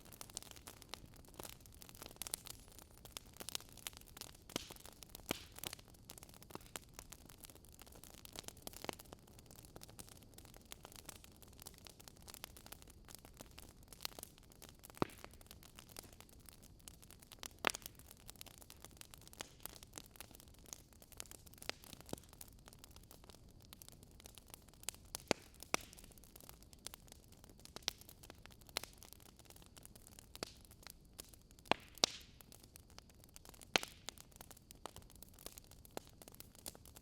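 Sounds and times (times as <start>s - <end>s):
soft steady hiss: 0.0s - 37.0s
wood fire crackling and popping: 0.0s - 37.0s.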